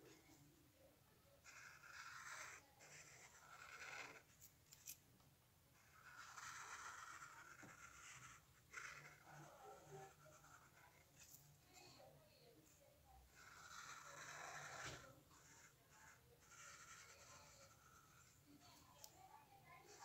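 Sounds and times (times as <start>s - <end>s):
marker scratching on paper: 1.4s - 5.0s, 5.8s - 12.0s, 12.7s - 20.0s.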